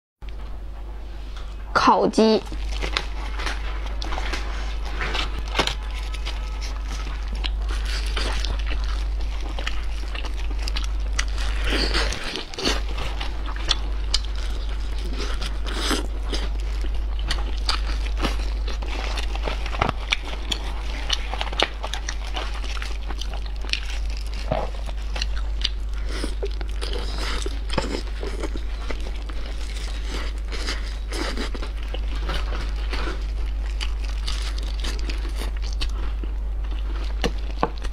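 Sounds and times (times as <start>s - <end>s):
steady low hum: 0.2s - 37.9s
foil crinkling: 2.4s - 36.1s
meat tearing: 2.4s - 36.1s
biting and chewing: 2.4s - 37.9s.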